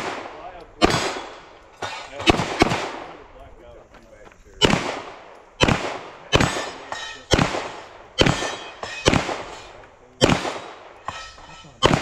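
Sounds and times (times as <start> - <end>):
handgun shots with echo: 0.0 - 3.0, 4.6 - 12.0.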